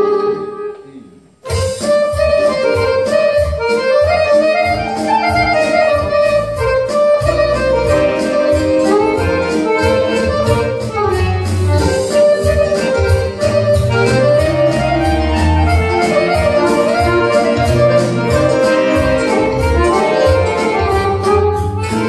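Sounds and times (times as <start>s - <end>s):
button accordion: 0.0s - 22.0s
electronic keyboards: 0.0s - 22.0s
quick beat with bass: 1.4s - 22.0s.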